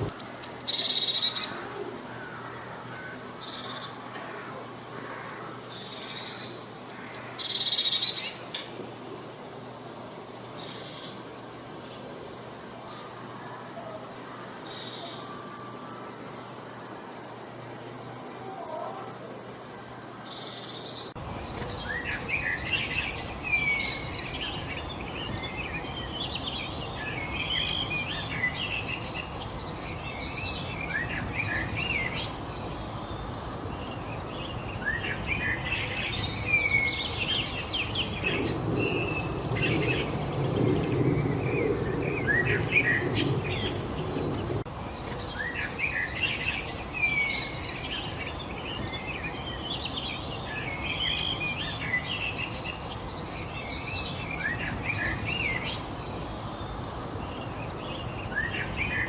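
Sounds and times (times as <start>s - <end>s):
songbirds chirping and twittering: 0.0s - 59.0s
steady outdoor hiss: 0.0s - 59.0s.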